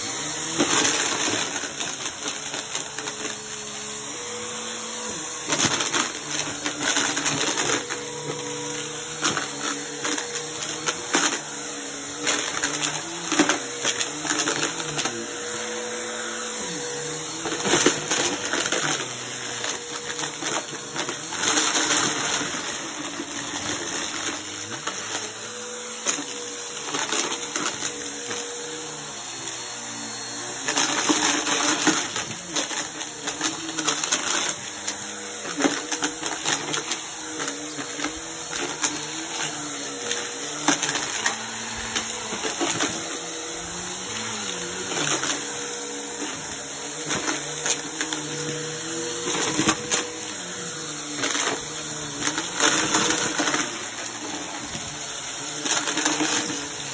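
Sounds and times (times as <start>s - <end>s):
small objects rattling through vacuum: 0.0s - 56.9s
vacuum cleaner motor hum: 0.0s - 56.9s.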